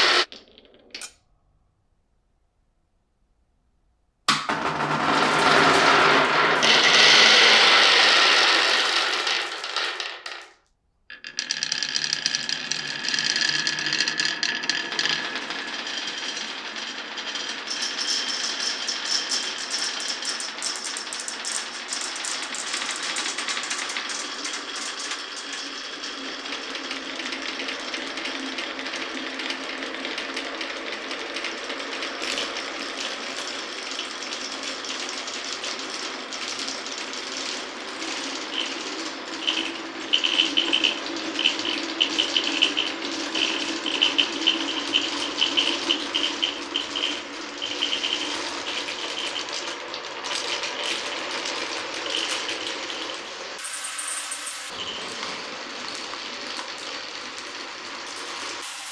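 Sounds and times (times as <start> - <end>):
marbles clattering on wooden run: 4.3 - 58.9.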